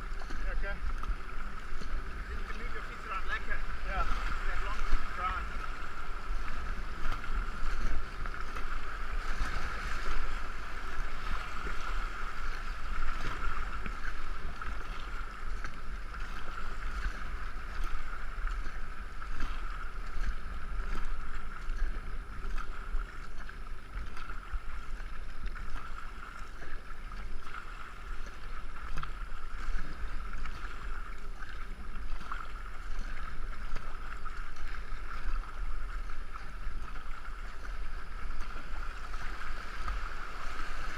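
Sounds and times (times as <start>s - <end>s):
river water noise: 0.0s - 40.9s
wind rumble on microphone: 0.0s - 40.9s.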